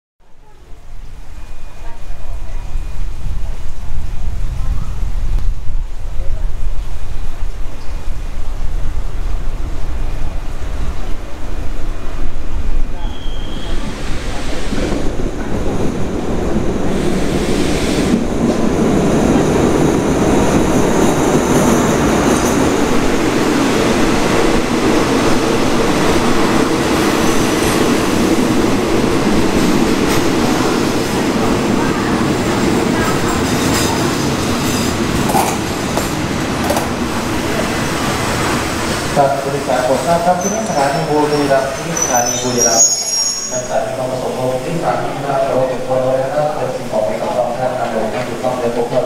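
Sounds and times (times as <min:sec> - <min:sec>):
train rumbling past: 0:00.4 - 0:49.0.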